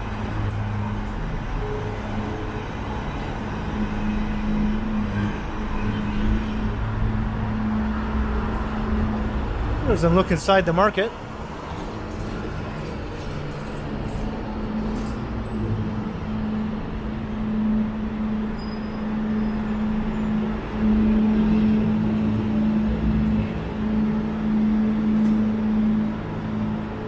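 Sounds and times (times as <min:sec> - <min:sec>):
street traffic: 0:00.0 - 0:27.0
vehicle engine hum: 0:00.0 - 0:27.0.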